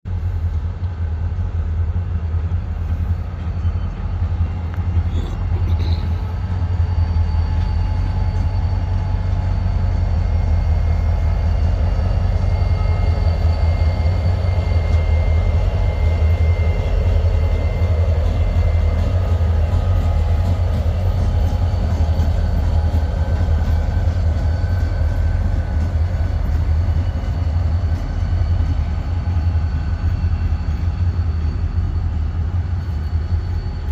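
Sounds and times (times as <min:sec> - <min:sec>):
diesel locomotives rumbling past: 0:00.0 - 0:33.9.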